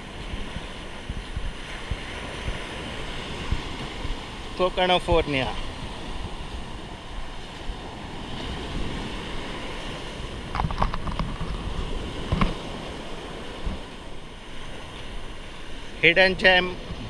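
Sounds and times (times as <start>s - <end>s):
small waves breaking on beach: 0.0s - 17.0s
wind buffeting microphone: 0.0s - 17.0s.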